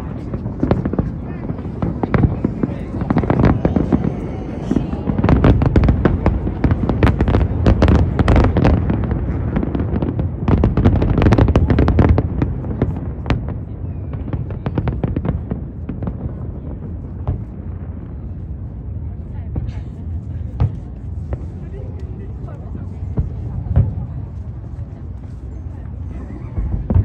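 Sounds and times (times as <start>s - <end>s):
fireworks cracking and banging: 0.0s - 27.0s.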